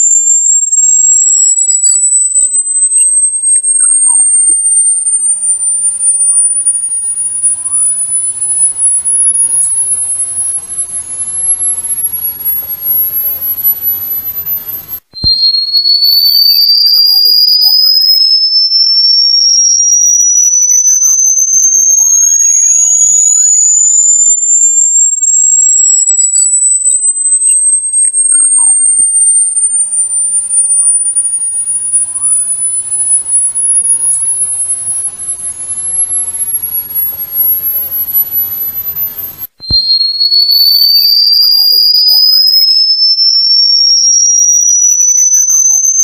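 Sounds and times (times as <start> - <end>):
high-pitched electronic tone: 0.0 - 46.0.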